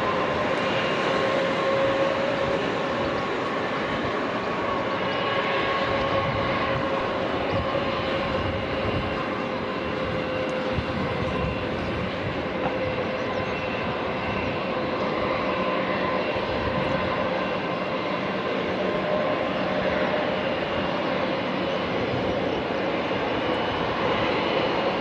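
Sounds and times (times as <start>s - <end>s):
jet engines whining at low power: 0.0s - 25.0s.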